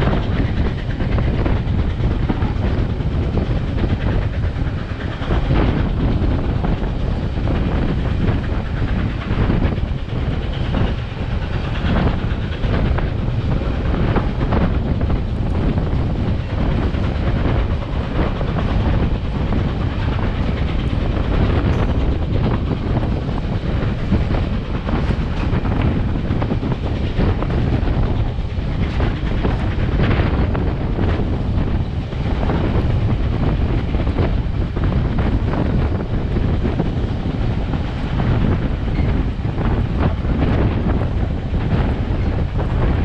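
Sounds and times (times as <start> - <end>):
train wheels rumbling on rail: 0.0 - 43.0
wheels clacking over rail joints: 0.0 - 43.0.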